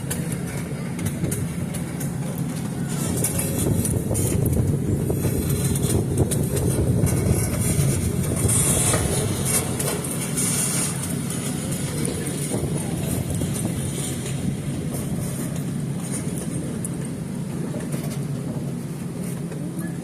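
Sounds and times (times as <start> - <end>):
light rattles and clicks: 0.0 - 20.0
train running rumble: 0.0 - 20.0.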